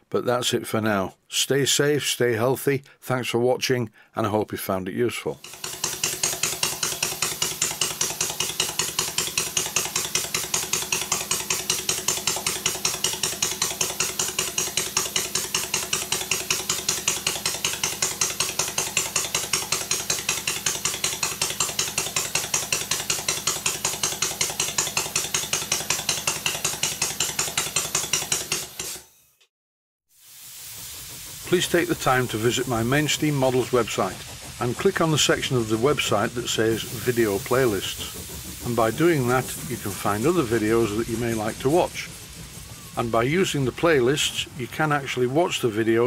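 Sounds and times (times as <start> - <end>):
model steam engine beating: 5.3 - 29.1, 30.3 - 46.0
steam hiss: 5.3 - 29.2, 30.1 - 46.0.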